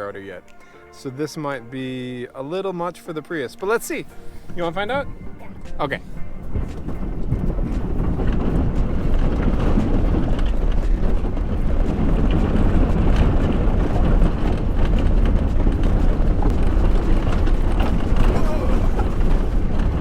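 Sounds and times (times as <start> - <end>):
car driving over rough ground: 3.9 - 20.0.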